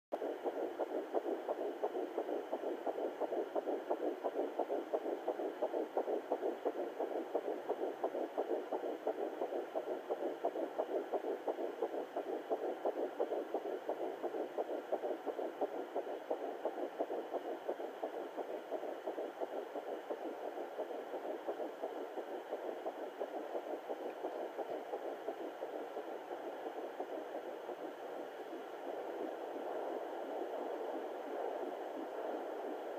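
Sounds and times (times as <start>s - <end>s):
fetal heartbeat whooshing pulses: 0.1s - 32.9s.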